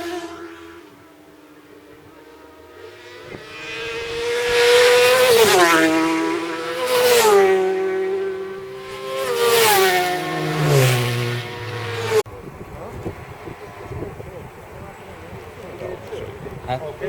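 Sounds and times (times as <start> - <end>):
motorcycles passing at speed: 0.0 - 17.0.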